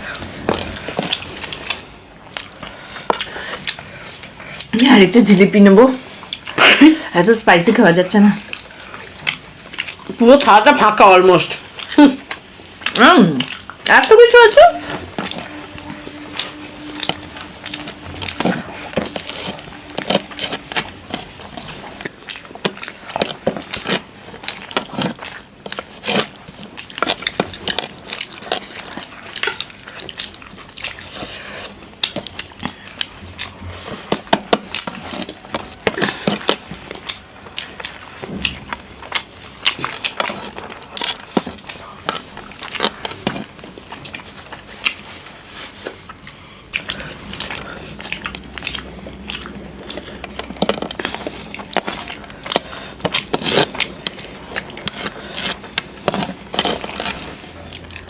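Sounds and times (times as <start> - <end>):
people chewing and biting: 0.0 - 58.0.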